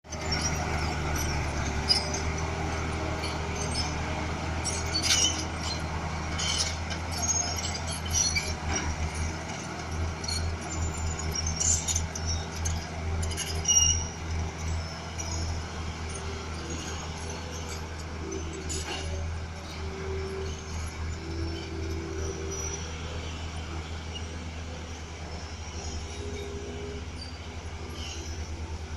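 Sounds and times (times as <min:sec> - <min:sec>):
diesel engine droning: 0:00.0 - 0:28.9
sharp clinks and squeaks: 0:00.1 - 0:28.9.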